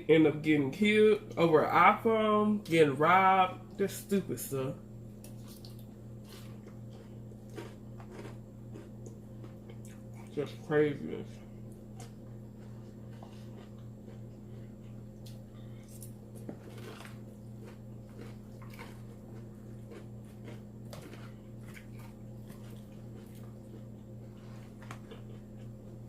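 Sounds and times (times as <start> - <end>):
steady low hum: 0.0 - 26.0
chewing and crunching salad: 5.0 - 26.0.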